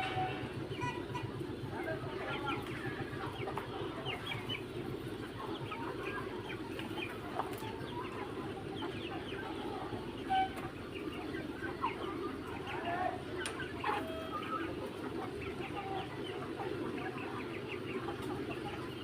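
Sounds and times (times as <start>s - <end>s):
chickens clucking and cheeping: 0.0s - 19.0s.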